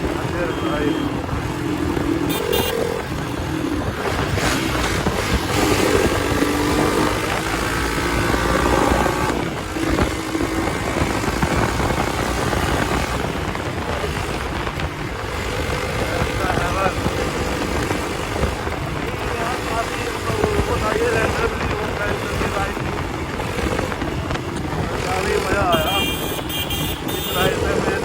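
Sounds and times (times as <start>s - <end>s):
motorcycle engine running: 0.0s - 28.0s
wind noise on microphone: 0.0s - 28.0s.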